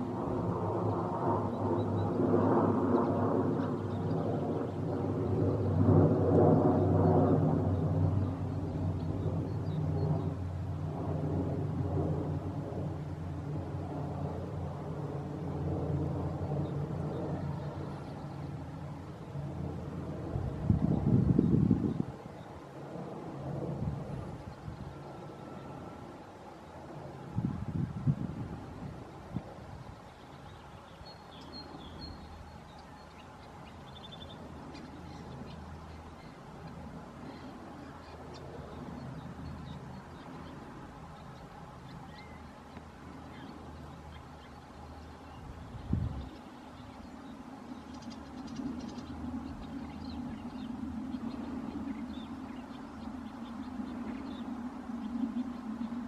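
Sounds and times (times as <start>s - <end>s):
steady low hum: 0.0s - 56.0s
sparrows chirping: 0.8s - 10.6s, 16.3s - 19.4s, 20.4s - 22.7s, 23.8s - 56.0s.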